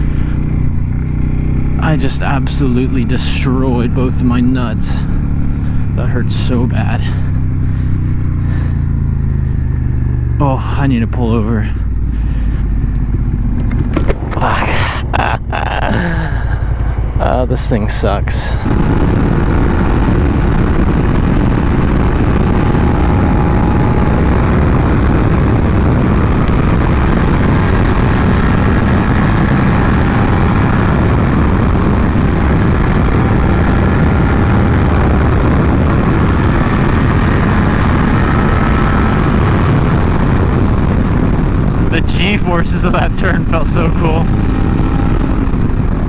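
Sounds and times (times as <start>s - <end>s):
motorcycle engine at speed: 0.0s - 46.0s
wind rushing over microphone: 0.0s - 46.0s.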